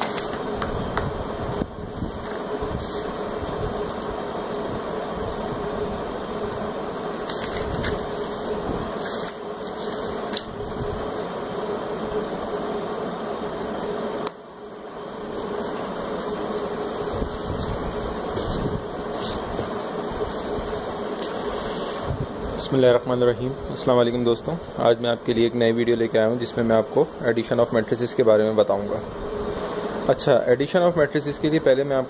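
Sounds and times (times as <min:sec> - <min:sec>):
steady machine hum with hiss: 0:00.0 - 0:32.0.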